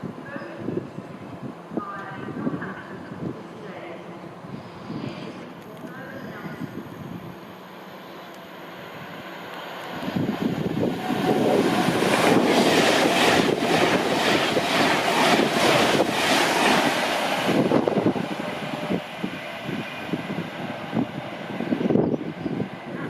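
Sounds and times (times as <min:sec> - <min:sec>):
train rushing past: 0:04.3 - 0:23.0.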